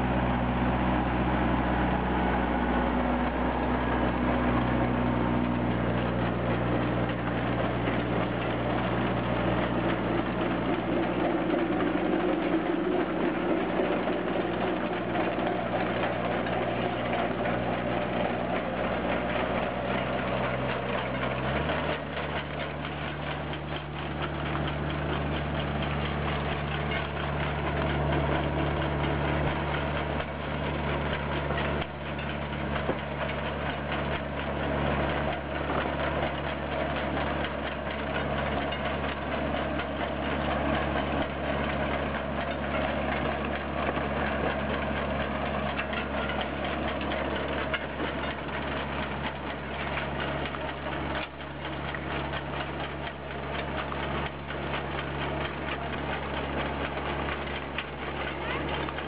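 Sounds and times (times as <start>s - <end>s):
potato digger elevator rattling: 0.0s - 59.0s
tractor engine running: 0.0s - 59.0s.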